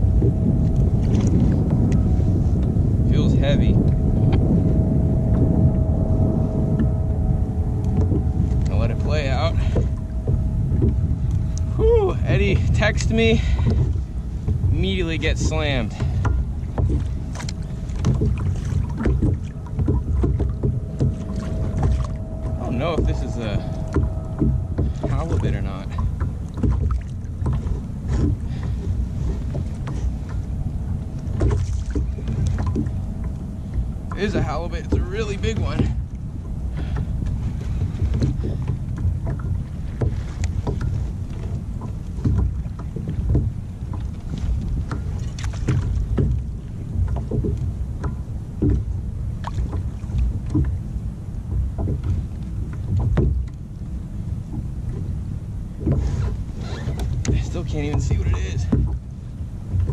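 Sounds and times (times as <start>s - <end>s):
water slapping a kayak hull: 0.0s - 59.9s
wind buffeting the microphone: 0.0s - 59.9s.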